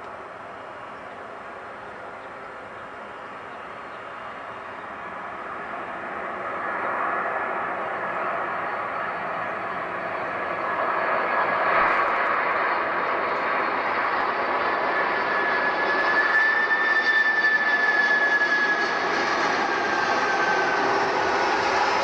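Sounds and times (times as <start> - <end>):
high engine whine: 0.0 - 22.0
jet engine noise: 0.0 - 22.0.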